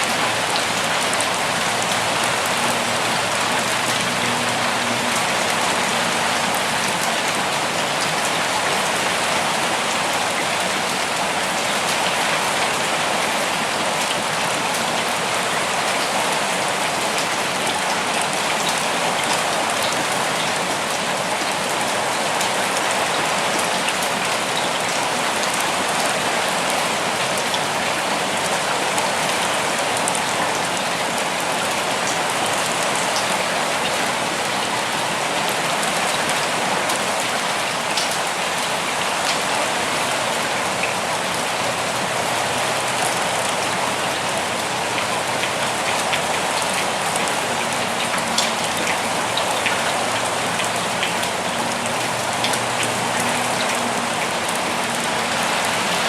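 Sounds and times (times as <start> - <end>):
rain falling: 0.0 - 56.0
raindrops pattering: 0.0 - 56.0.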